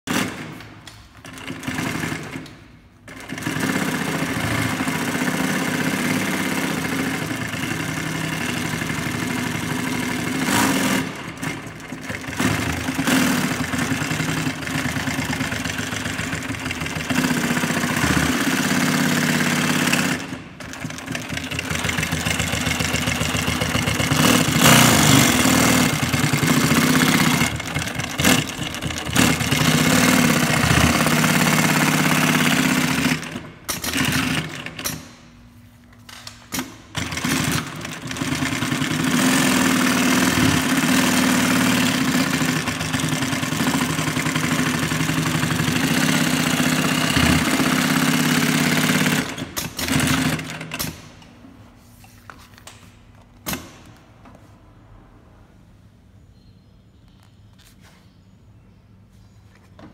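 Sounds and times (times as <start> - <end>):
industrial sewing machine stitching: 0.0 - 35.2, 36.2 - 51.4.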